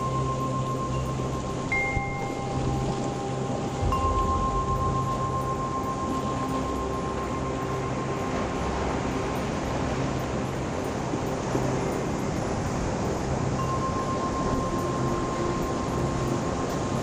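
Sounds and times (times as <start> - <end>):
surf washing over rocks: 0.0 - 17.0.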